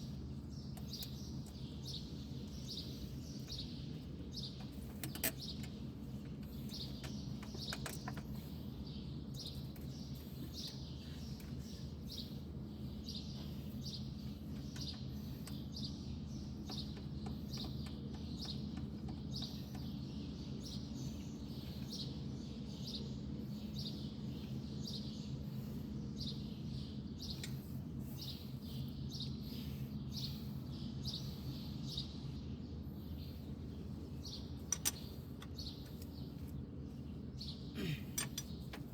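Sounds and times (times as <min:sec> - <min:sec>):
steady low hum: 0:00.0 - 0:38.9
bird chirping: 0:06.5 - 0:38.9.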